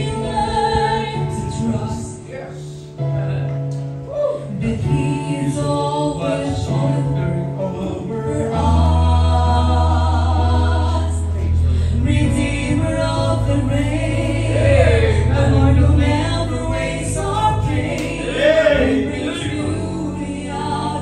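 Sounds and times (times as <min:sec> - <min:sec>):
man and woman singing gospel: 0:00.0 - 0:02.7, 0:04.1 - 0:21.0.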